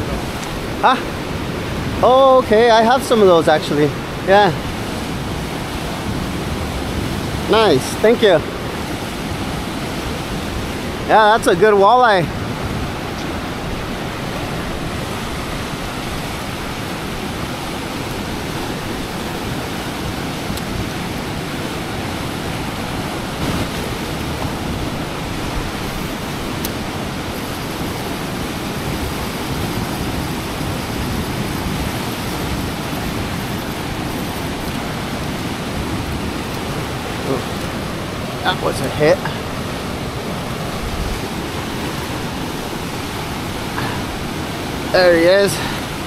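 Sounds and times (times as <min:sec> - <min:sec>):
fast-flowing river water rushing: 0:00.0 - 0:46.0.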